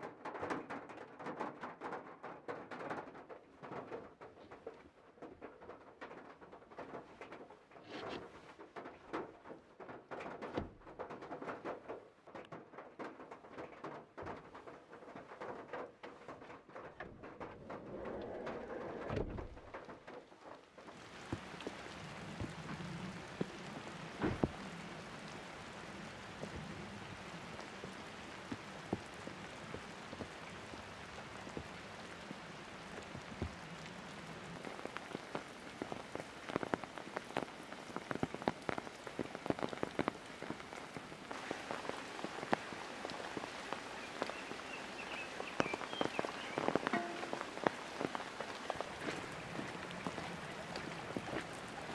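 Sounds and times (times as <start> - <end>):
steady rain: 0.0 - 51.9
raindrops ticking sharply: 8.4 - 51.9.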